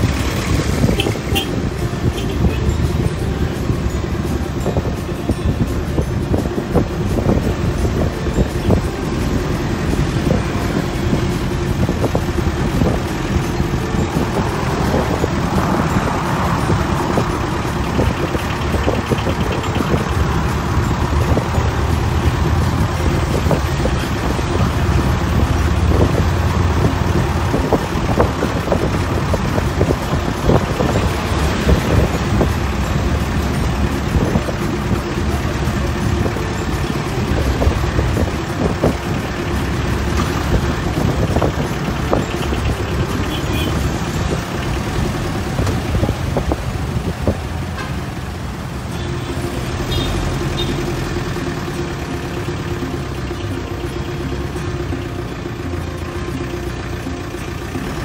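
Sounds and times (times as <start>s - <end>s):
wind buffeting microphone: 0.0s - 47.8s
road noise: 0.0s - 58.0s
vehicle body rattling: 0.0s - 58.0s
vehicle engine running: 0.0s - 58.0s.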